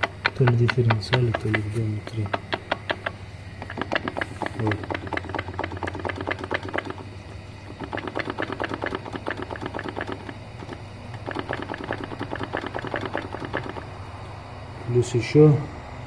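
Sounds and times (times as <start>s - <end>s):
rapid even clicking: 0.0s - 7.1s, 7.7s - 13.9s
low steady hum: 0.0s - 16.0s.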